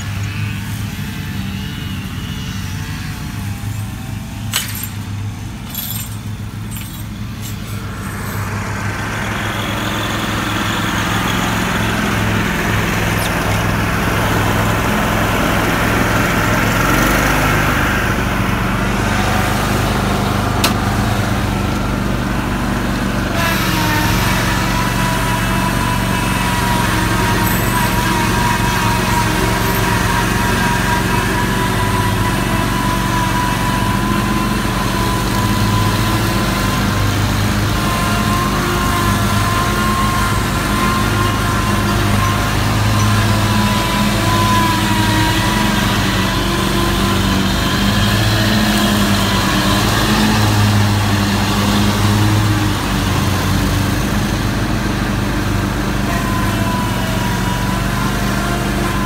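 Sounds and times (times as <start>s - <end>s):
lawn mower cutting grass: 0.0s - 59.0s.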